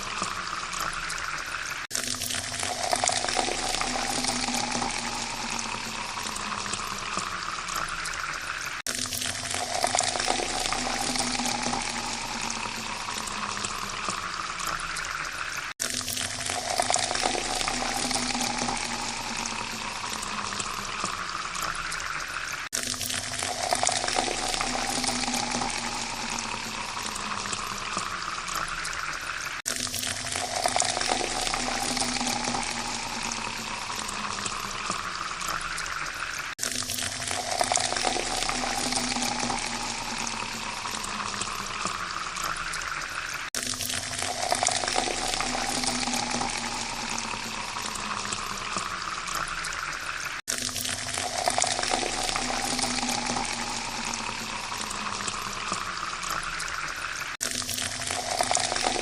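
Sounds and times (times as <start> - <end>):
water pouring into a glass: 0.0 - 59.0.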